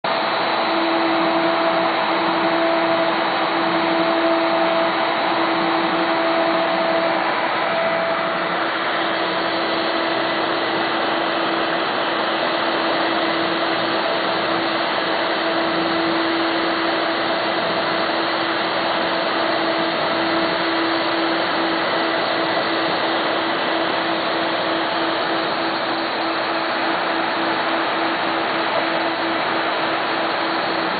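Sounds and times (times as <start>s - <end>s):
machine motor whine: 0.1s - 30.9s.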